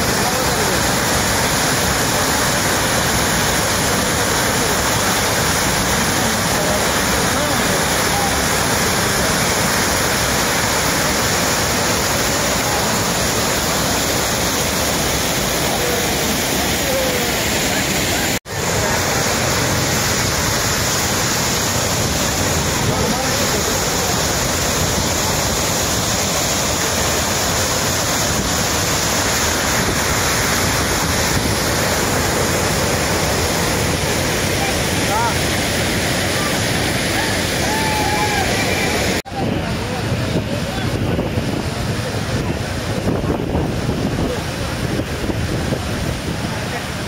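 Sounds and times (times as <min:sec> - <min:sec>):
loud rush of churning water: 0:00.0 - 0:47.0.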